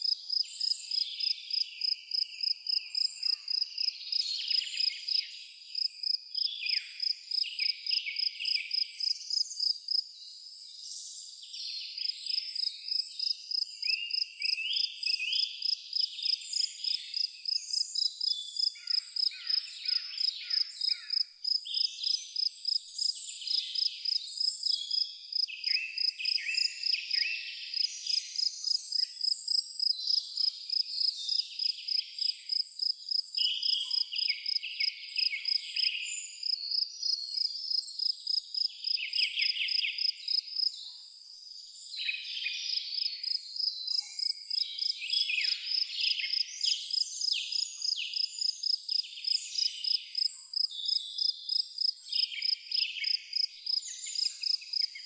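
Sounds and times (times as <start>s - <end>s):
cricket-like insect chirping: 0.0s - 10.1s, 12.0s - 35.6s, 36.4s - 41.6s, 42.6s - 55.0s
birds singing and chirping: 0.0s - 55.0s.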